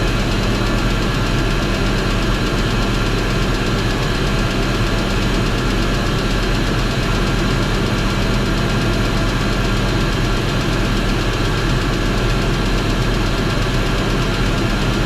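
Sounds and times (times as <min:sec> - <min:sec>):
car engine running: 0:00.0 - 0:15.0
fast even engine ticking knock: 0:00.0 - 0:15.0.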